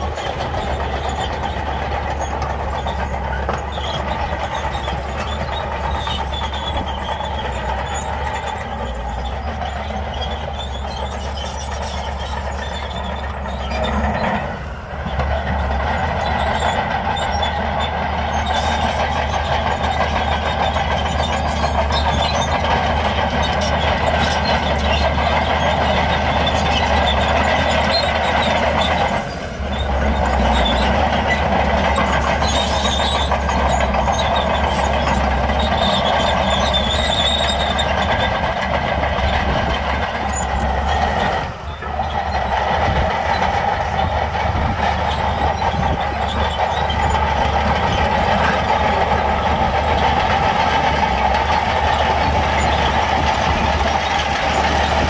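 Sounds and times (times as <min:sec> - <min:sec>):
bulldozer diesel engine under load: 0:00.0 - 0:55.0
steel tracks clanking and squeaking: 0:00.0 - 0:55.0.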